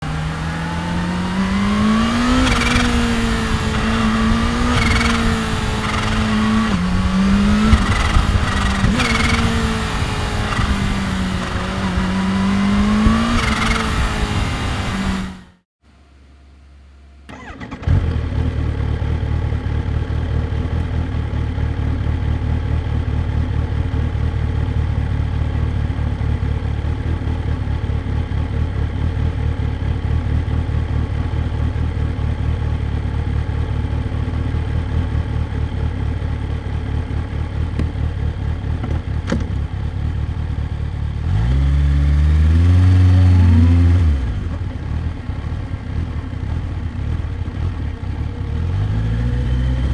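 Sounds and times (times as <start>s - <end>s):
motorcycle engine idling: 0.0s - 15.5s, 18.0s - 41.3s, 43.2s - 49.9s.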